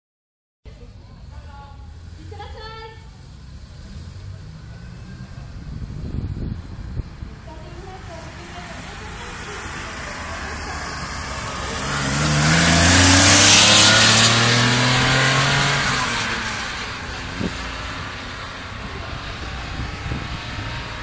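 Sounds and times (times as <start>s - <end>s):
car engine accelerating past: 3.0s - 7.1s, 8.0s - 21.0s.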